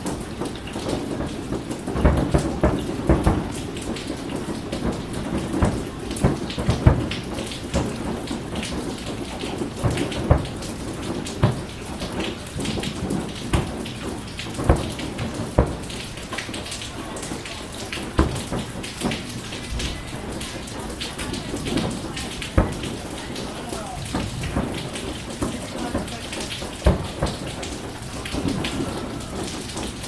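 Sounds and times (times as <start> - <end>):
crackling hiss: 0.0 - 30.0
fireworks bangs and booms: 0.0 - 30.0.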